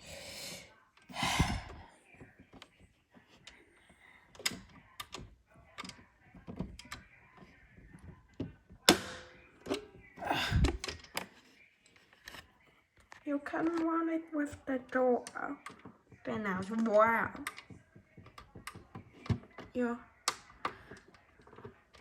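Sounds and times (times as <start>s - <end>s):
clicks and knocks of handling: 1.0s - 22.0s.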